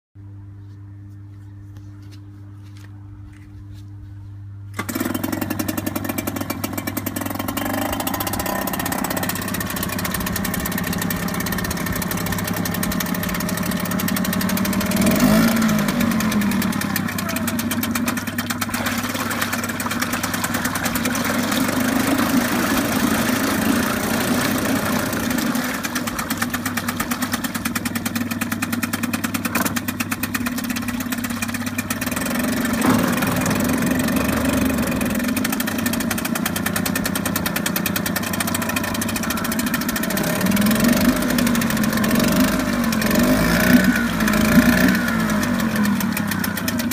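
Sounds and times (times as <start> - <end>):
outboard motor revving: 4.7 - 46.9
propeller churning water: 4.7 - 46.9.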